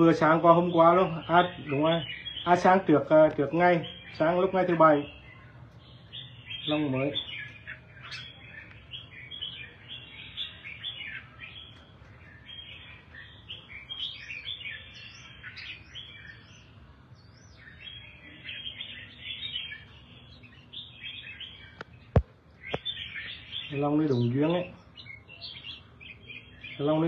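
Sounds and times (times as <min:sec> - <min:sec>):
bird singing chirps and whistles: 0:00.2 - 0:02.9, 0:03.5 - 0:27.0.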